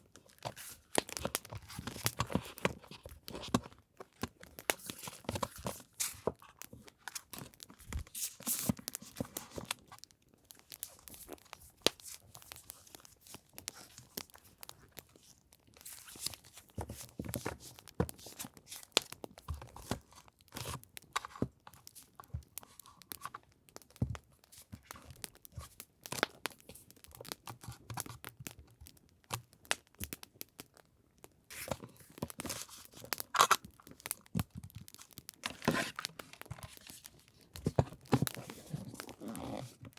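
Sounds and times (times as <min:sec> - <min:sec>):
paper rustling and crinkling: 0:00.0 - 0:28.3, 0:31.5 - 0:39.9.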